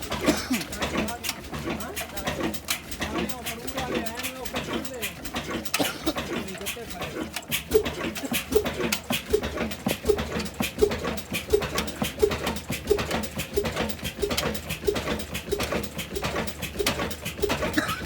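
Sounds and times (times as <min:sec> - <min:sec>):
old engine chuffing: 0:00.0 - 0:18.0.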